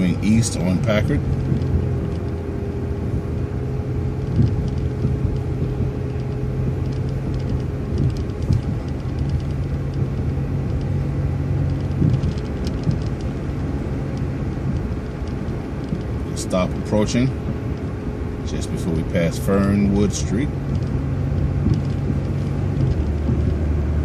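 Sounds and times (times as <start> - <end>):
bus engine running: 0.0 - 24.0
constant whine: 0.0 - 24.0
light rattles: 0.0 - 24.0.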